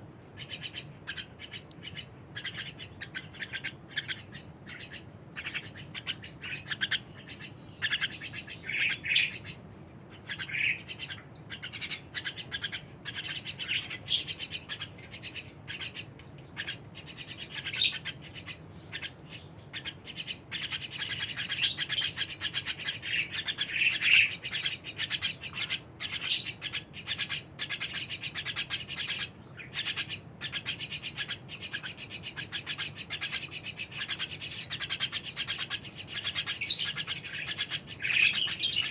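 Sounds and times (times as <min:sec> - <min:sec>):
songbird chirping and twittering: 0:00.0 - 0:38.9.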